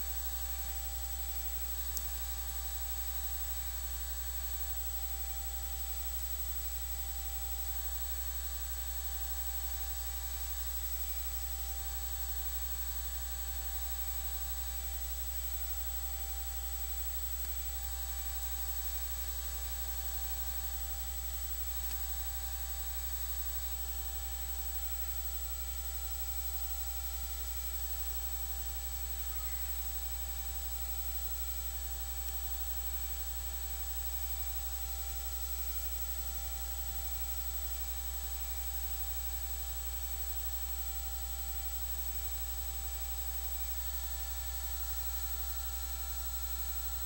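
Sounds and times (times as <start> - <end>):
faint high whine: 0.0 - 47.0
low electrical hum: 0.0 - 47.0.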